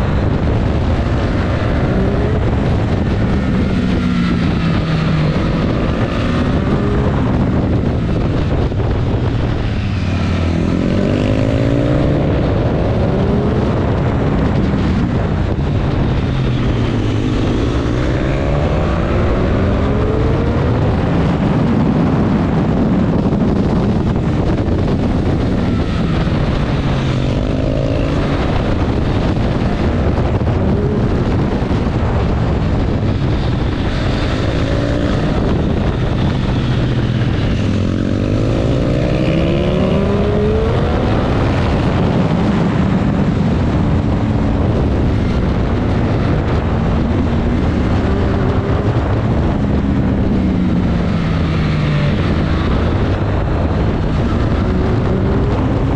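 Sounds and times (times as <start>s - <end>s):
motorcycle engine revving: 0.0s - 55.9s
wind and road noise: 0.0s - 55.9s.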